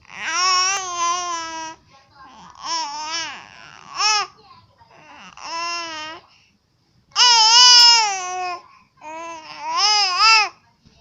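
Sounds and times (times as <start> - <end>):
baby vocalizing: 0.0 - 6.2, 7.2 - 10.6.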